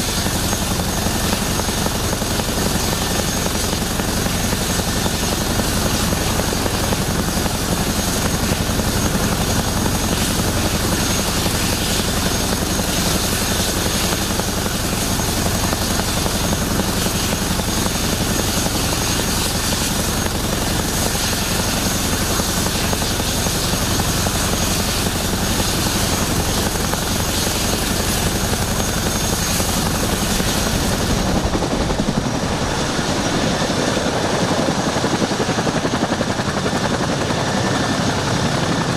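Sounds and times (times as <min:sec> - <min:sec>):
helicopter turbine whine: 0:00.0 - 0:38.9
low rotor drone: 0:00.0 - 0:38.9.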